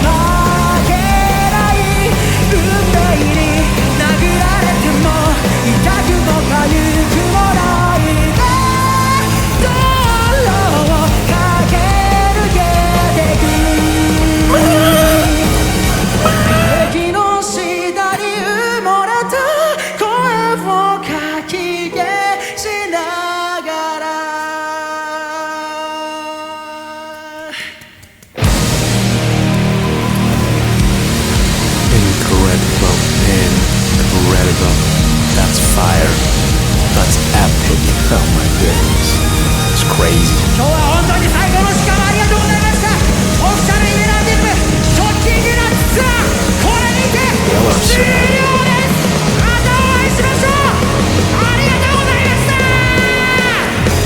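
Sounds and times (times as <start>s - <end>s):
rock band playing: 0.0s - 19.0s, 28.2s - 54.0s
male singer: 0.0s - 27.8s, 31.9s - 54.0s.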